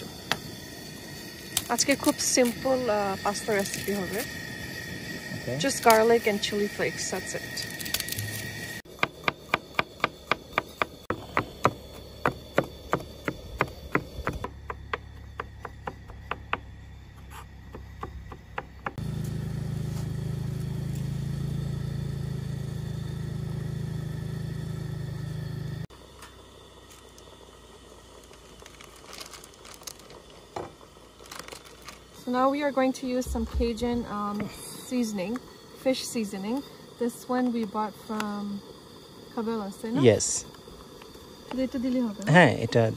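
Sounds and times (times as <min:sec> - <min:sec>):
camp stove burner rumble: 0:00.0 - 0:42.9.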